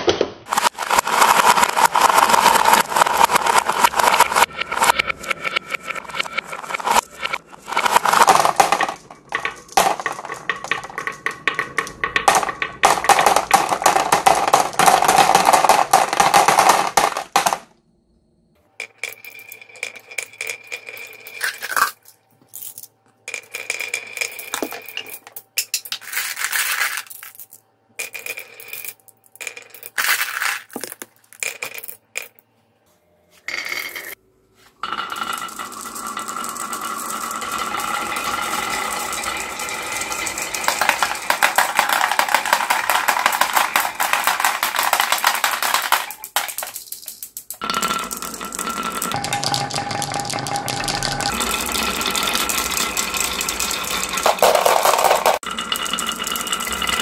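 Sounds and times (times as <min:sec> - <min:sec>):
glass marbles rolling and clattering: 0:00.5 - 0:17.7, 0:18.8 - 0:32.4, 0:33.5 - 0:34.2, 0:34.8 - 0:57.0.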